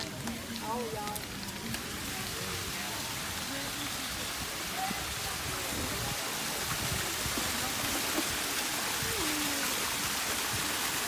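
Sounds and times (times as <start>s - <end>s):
small waterfall splashing: 0.0s - 11.0s.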